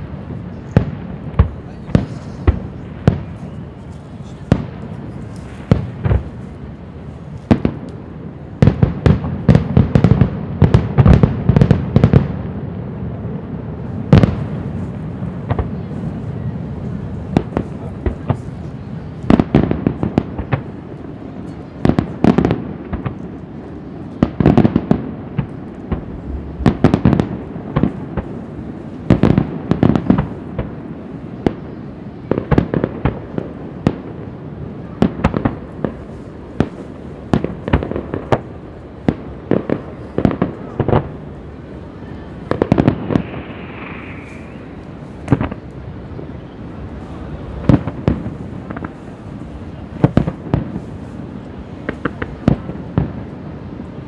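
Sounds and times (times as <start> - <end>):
fireworks bursting with bangs: 0.0 - 54.0.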